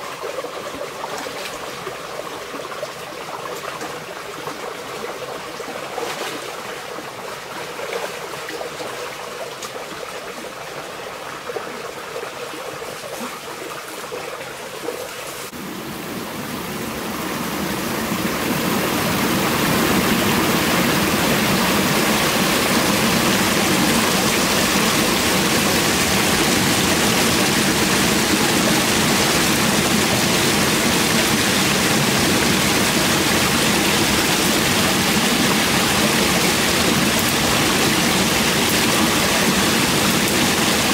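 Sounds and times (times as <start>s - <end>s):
stream running over rocks: 0.0s - 40.9s.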